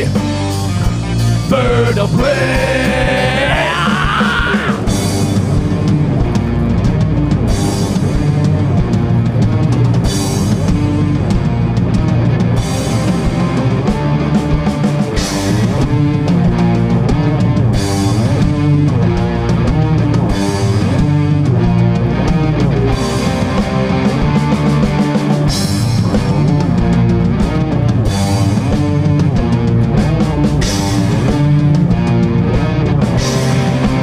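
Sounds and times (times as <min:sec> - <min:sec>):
bass guitar: 0:00.0 - 0:34.0
distorted electric guitars: 0:00.0 - 0:34.0
drum kit with cymbal crashes: 0:00.0 - 0:34.0.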